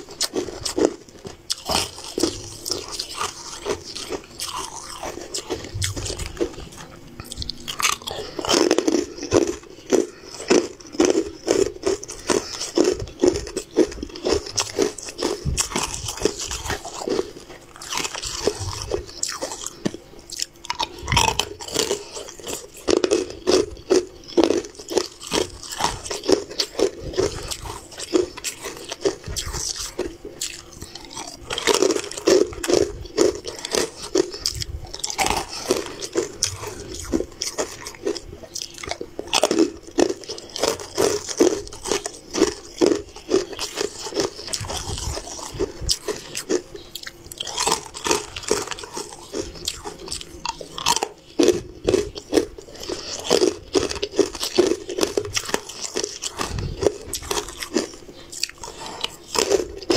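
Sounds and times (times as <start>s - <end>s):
person crunching hard sweets: 0.0s - 59.9s.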